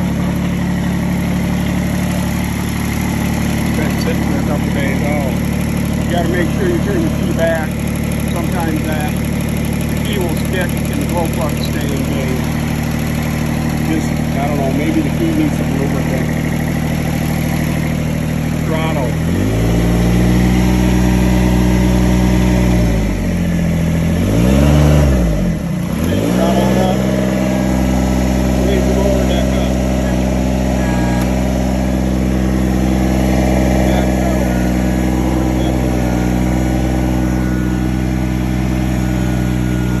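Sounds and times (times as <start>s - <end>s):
diesel tractor engine revving: 0.0s - 40.0s.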